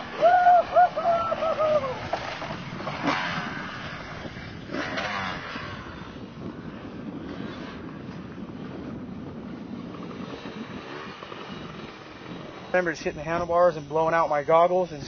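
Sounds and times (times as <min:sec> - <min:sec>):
dirt bike engine revving: 0:00.0 - 0:15.0
wind on microphone: 0:00.0 - 0:15.0.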